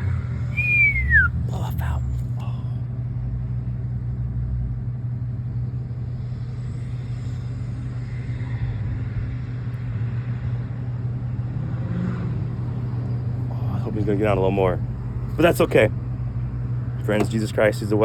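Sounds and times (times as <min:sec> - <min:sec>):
vehicle engine low drone: 0:00.0 - 0:18.0.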